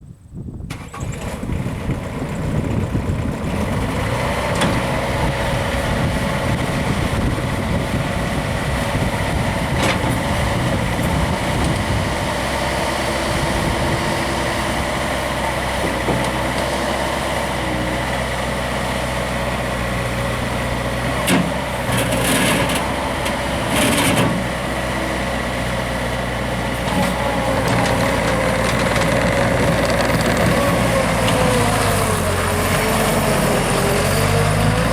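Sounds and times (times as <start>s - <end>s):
diesel engine running: 0.7s - 34.9s.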